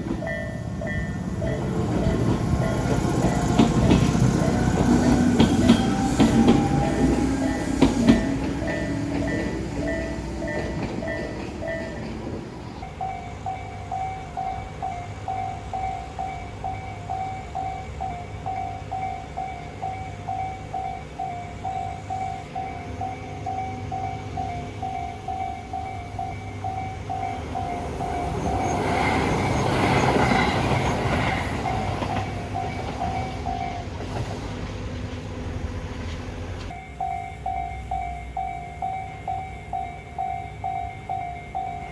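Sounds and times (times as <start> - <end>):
railway crossing bell ringing: 0.0 - 34.0, 36.7 - 41.9
train passing: 0.0 - 41.9.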